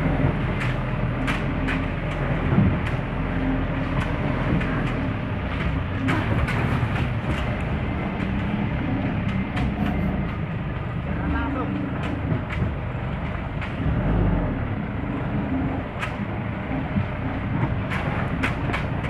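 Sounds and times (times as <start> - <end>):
vehicle engine running at low speed: 0.0 - 19.0
vehicle knocks and rattles over bumps: 0.0 - 19.0.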